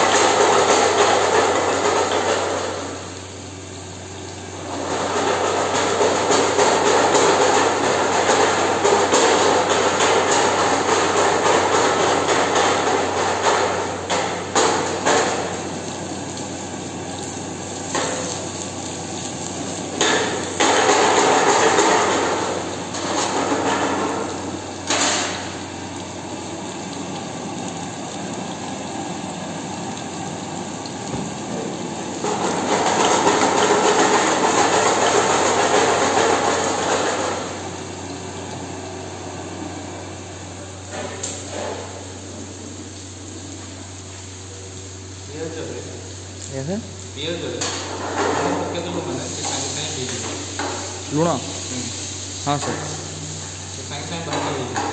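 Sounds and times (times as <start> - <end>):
food sizzling in a pan: 0.0 - 54.9
gas burner flame rushing: 0.0 - 54.9.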